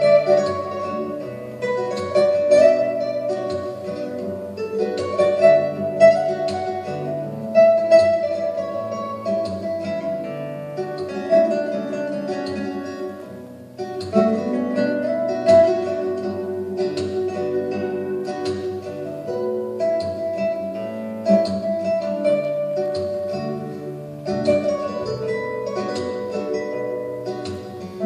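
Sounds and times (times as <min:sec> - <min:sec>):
instrumental music: 0:00.0 - 0:28.0.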